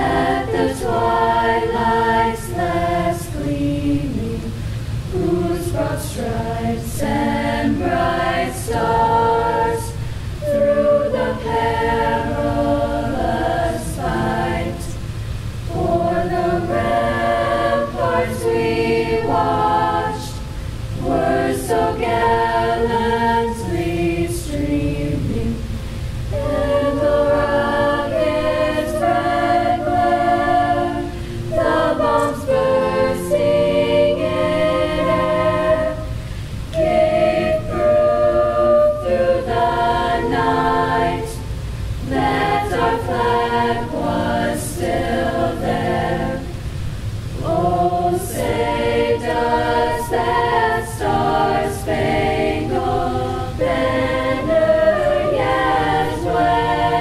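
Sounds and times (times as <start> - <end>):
choir singing unaccompanied: 0.0 - 57.0.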